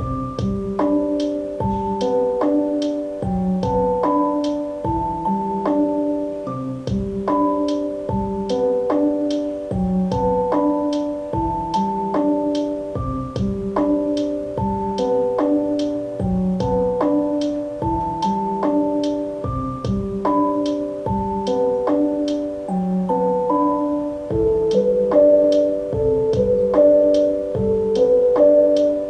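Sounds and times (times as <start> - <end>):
electric piano chords: 0.0 - 29.0
soft steady beat with percussion: 0.0 - 29.0.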